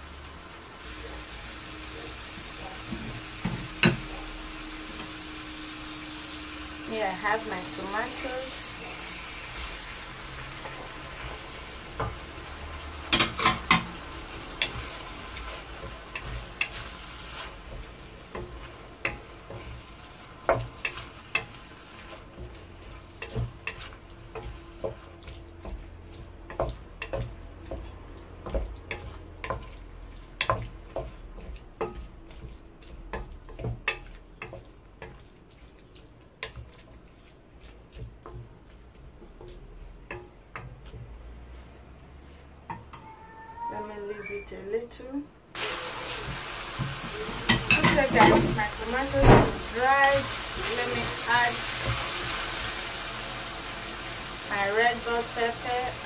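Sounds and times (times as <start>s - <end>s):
onions and tomatoes sizzling: 0.0s - 56.0s
spatula scraping and tapping pan: 2.3s - 43.1s, 46.2s - 52.4s.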